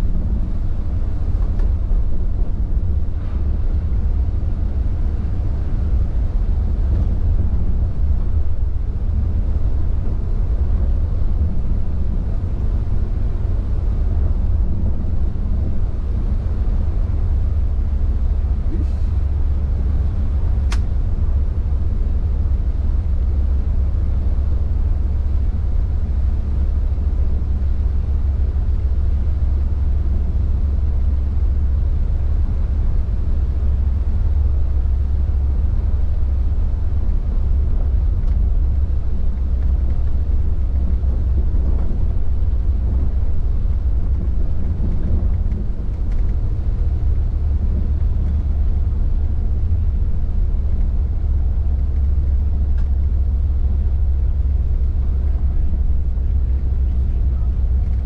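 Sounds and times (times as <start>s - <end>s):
bus engine and road drone: 0.0s - 58.0s
rain and wet tyre noise: 0.0s - 58.0s.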